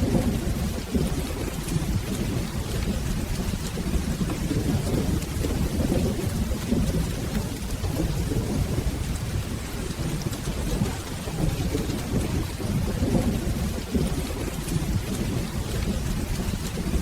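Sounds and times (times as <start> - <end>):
rolling thunder rumble: 0.0 - 17.0
steady rain: 0.0 - 17.0.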